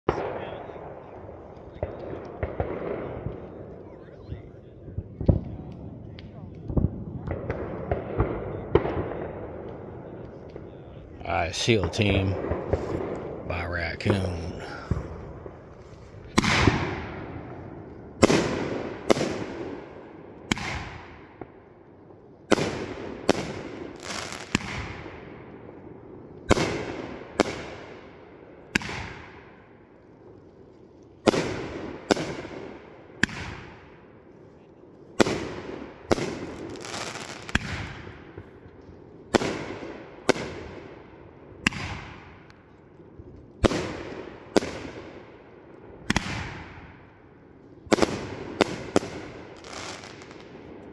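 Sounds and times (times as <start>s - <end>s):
fireworks shots and bursts: 0.1s - 50.9s.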